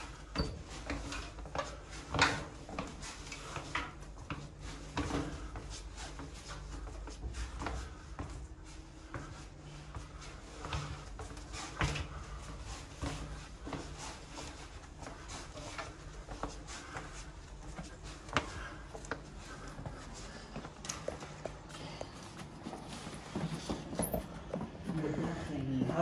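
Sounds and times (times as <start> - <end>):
footsteps on wooden steps: 0.0 - 26.0.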